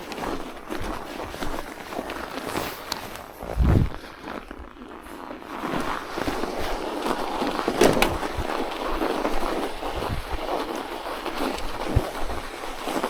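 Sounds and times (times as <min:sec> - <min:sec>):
bicycle tyres crunching over snow: 0:00.0 - 0:13.0.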